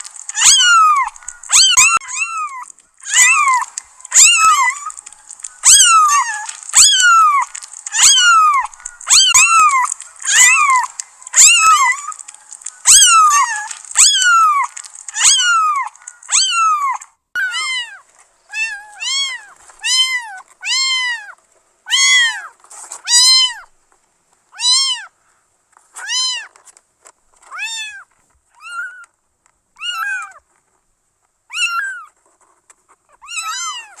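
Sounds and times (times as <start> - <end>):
kittens meowing: 0.0 - 23.8, 24.6 - 25.2, 25.9 - 26.7, 27.4 - 29.2, 29.8 - 30.4, 31.5 - 32.2, 33.1 - 34.0
light hiss: 0.0 - 34.0.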